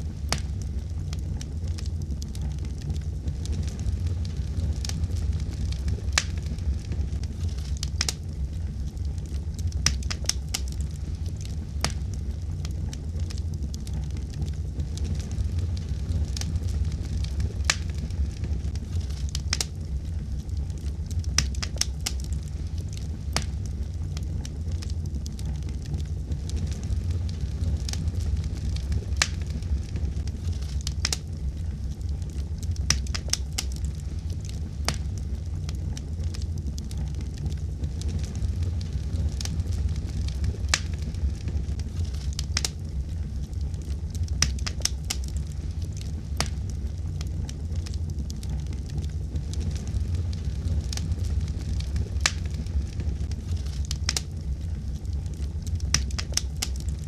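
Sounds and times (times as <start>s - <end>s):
fire burning rumble: 0.0s - 57.0s
wood fire pops and snaps: 0.0s - 57.0s.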